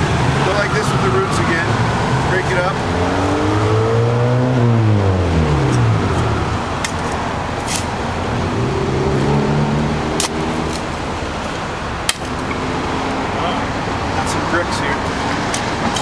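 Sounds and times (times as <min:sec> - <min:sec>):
steady traffic hum: 0:00.0 - 0:16.0
vehicle engine passing: 0:00.0 - 0:16.0.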